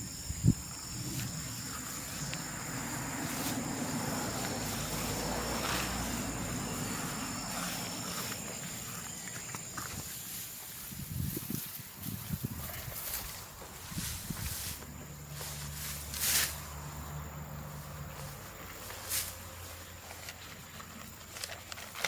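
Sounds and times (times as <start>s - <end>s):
high insect drone: 0.0s - 21.9s.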